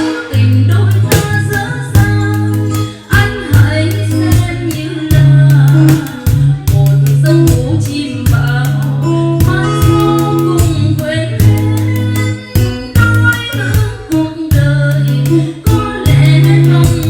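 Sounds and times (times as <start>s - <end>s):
acoustic guitar: 0.0s - 17.0s
bass notes: 0.0s - 17.0s
person singing: 0.0s - 17.0s.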